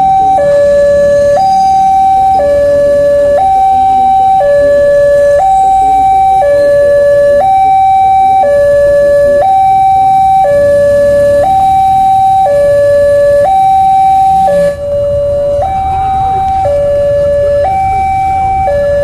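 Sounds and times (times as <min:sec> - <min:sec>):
two-tone crossing alarm: 0:00.0 - 0:19.0.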